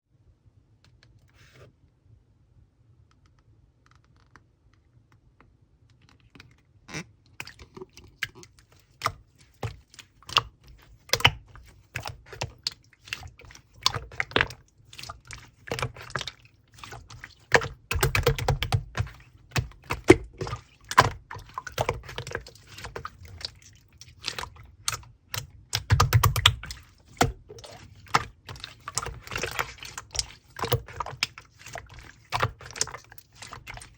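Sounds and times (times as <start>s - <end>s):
slime squishes: 6.0s - 33.9s.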